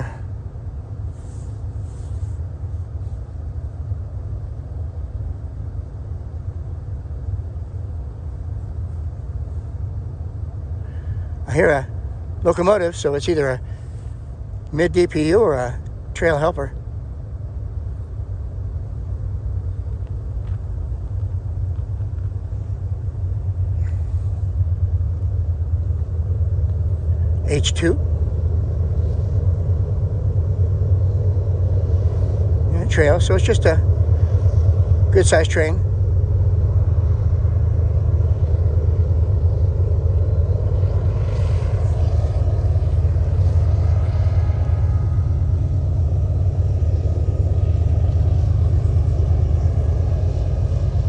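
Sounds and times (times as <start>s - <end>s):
diesel locomotive low drone: 0.0s - 51.0s.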